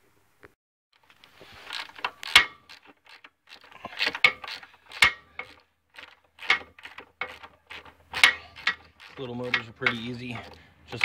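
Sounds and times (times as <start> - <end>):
socket ratchet clicking: 1.0 - 11.0.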